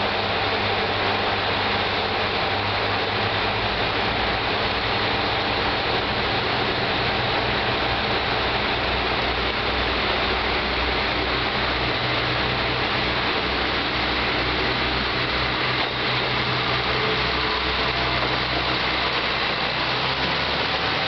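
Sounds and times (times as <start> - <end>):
constant hiss: 0.0 - 21.0
diesel railcar engine drone: 0.0 - 21.0.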